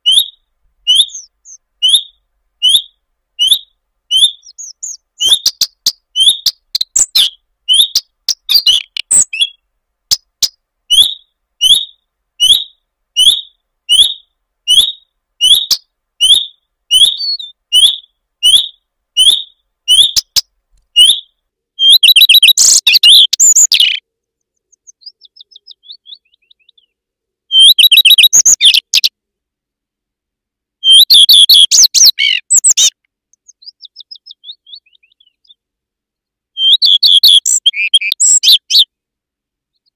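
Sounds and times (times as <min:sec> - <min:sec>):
faint bird twittering: 0:00.0 - 0:29.1, 0:30.8 - 0:38.9
high upward-hooked bird call: 0:00.0 - 0:29.2, 0:30.8 - 0:35.6, 0:36.5 - 0:39.0.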